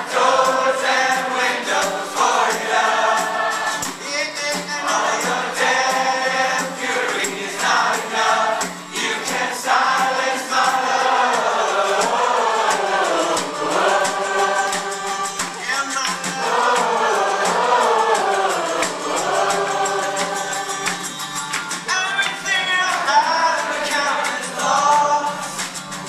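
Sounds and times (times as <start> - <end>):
male voices singing together: 0.0 - 21.2, 21.8 - 26.0
strummed acoustic guitar: 0.0 - 26.0.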